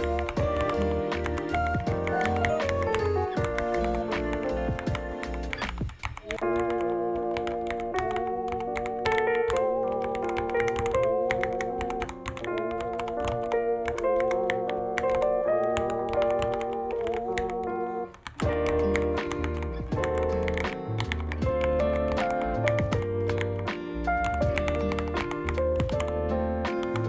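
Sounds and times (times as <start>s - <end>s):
background music with held notes: 0.0s - 27.0s
mechanical keyboard typing: 0.0s - 27.0s.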